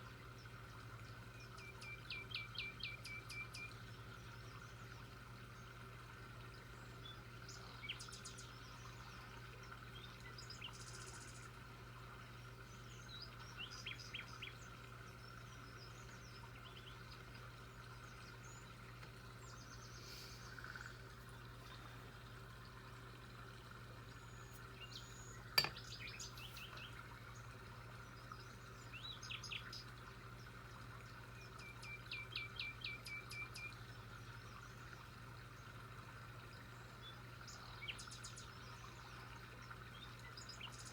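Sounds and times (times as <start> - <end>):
faint birdsong chirps: 0.0 - 40.9.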